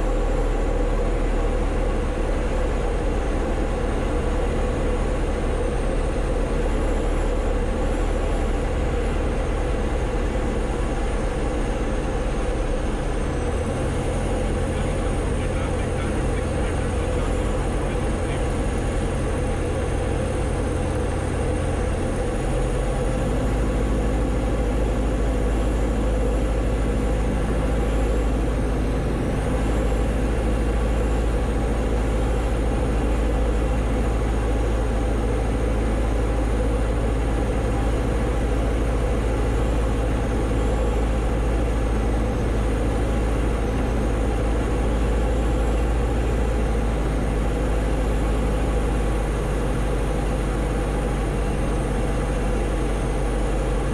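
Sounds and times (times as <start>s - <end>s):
aircraft engine drone: 0.0s - 53.9s.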